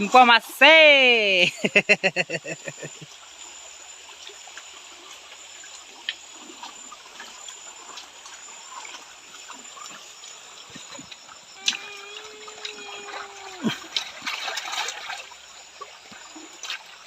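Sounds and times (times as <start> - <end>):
high-pitched whine: 0.0 - 17.0
stream trickling: 0.0 - 17.0.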